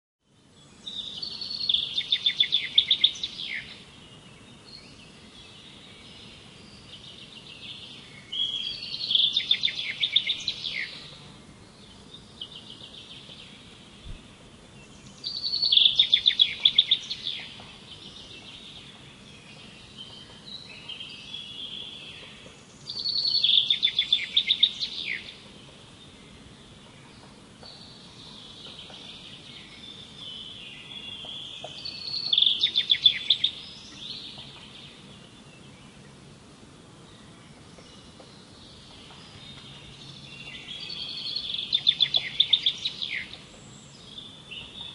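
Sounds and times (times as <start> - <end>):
songbird singing: 0.2 - 44.9
faint bird chirps: 0.6 - 36.1, 37.2 - 44.9.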